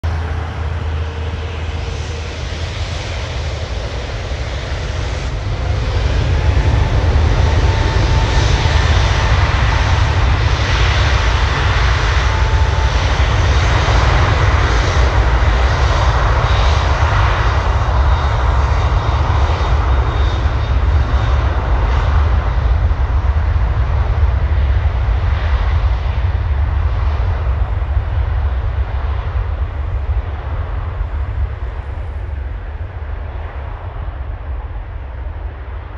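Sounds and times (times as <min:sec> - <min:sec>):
jet engines rumbling: 0:00.0 - 0:35.9.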